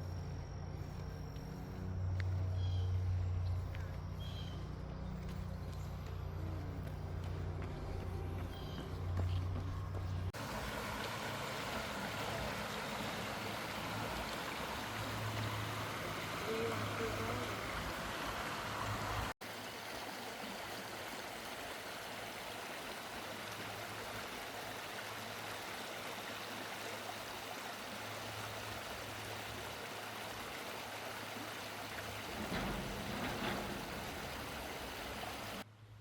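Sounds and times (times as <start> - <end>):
creek water running: 0.7 - 35.8.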